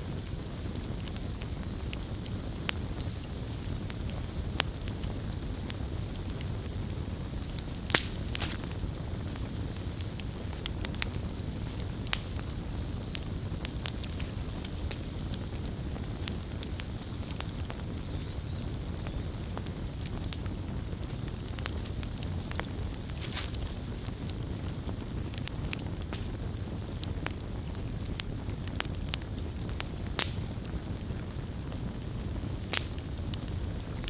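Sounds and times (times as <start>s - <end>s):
campfire crackling: 0.0s - 34.0s
fire popping: 0.0s - 34.0s
low fire rumble: 0.0s - 34.0s.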